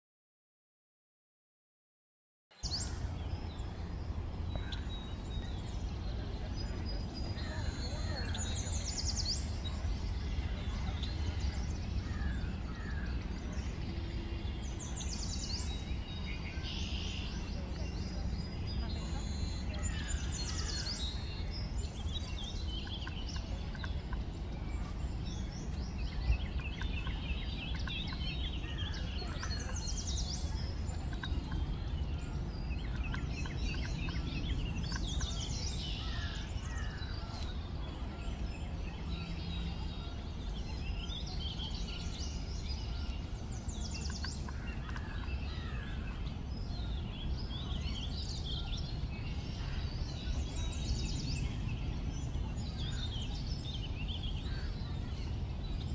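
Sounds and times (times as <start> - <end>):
small birds chirping: 2.6 - 55.9
low outdoor rumble: 2.7 - 55.9.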